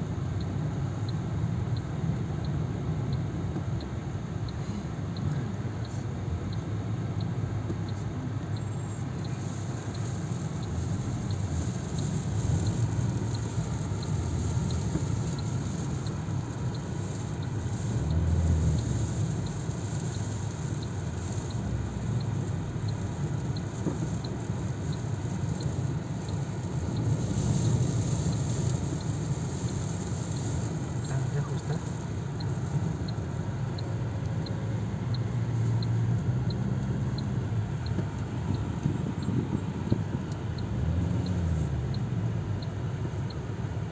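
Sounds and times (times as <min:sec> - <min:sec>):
car driving heard from cabin: 0:00.0 - 0:43.9
faint regular ticking: 0:00.1 - 0:43.9.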